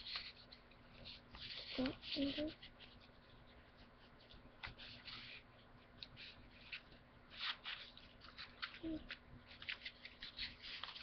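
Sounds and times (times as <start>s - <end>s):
paper sheets rustling: 0.0s - 11.0s.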